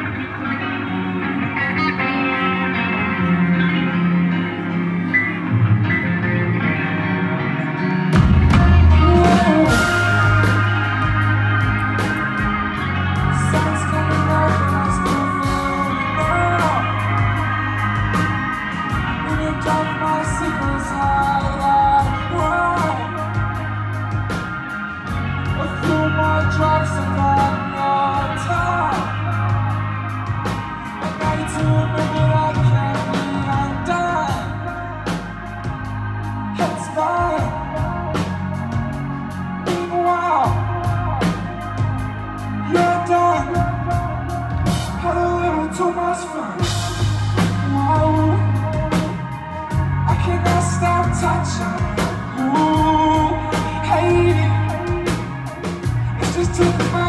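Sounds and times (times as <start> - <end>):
live concert music: 0.0 - 57.0
person singing: 0.0 - 57.0.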